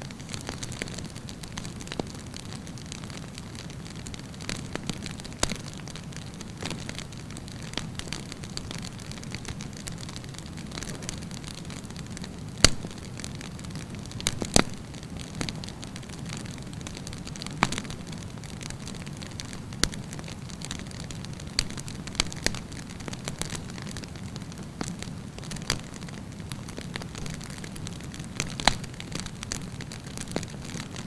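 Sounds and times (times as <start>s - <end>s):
campfire flames rumbling: 0.0s - 31.0s
fire crackles and pops: 0.0s - 31.0s.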